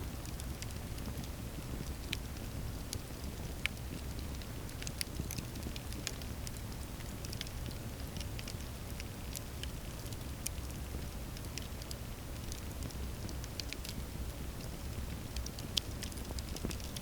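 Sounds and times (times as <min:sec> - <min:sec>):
low rumble of flame: 0:00.0 - 0:17.0
campfire crackling and popping: 0:00.1 - 0:17.0.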